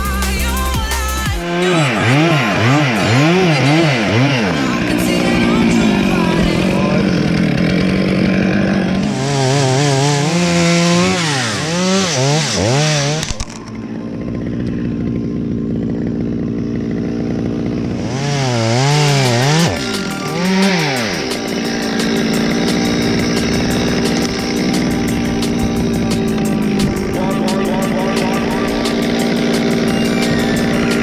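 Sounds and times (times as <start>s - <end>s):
chainsaw revving: 0.0s - 31.0s.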